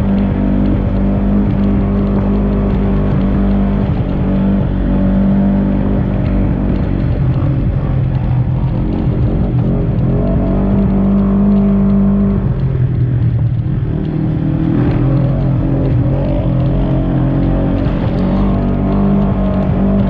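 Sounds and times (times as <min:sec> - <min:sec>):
engine revving at high revs: 0:00.0 - 0:20.0.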